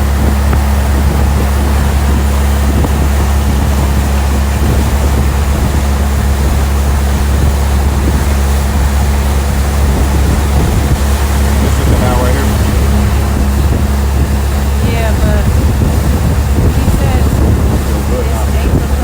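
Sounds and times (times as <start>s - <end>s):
outboard motor running: 0.0s - 19.0s
rushing water: 0.0s - 19.0s
wind: 0.0s - 19.0s.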